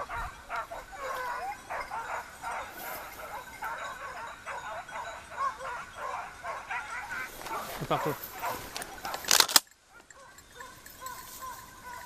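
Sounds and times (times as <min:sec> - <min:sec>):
hounds baying and yelping: 0:00.0 - 0:12.0.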